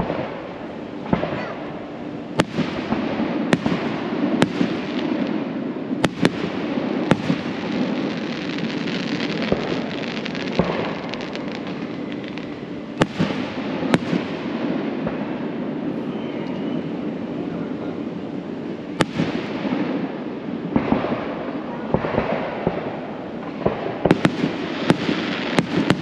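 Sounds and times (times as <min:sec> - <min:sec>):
fireworks bangs: 0:00.0 - 0:15.9, 0:18.9 - 0:26.0
fireworks crackling: 0:00.0 - 0:16.0, 0:18.4 - 0:26.0
background noise: 0:00.0 - 0:26.0.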